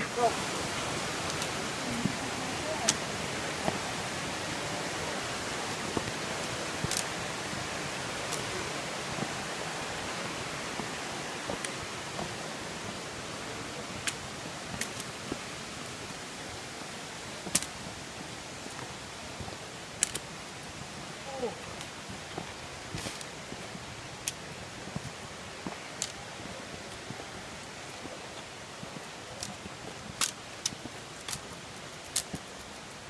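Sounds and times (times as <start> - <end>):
mountain creek rushing: 0.0 - 33.0.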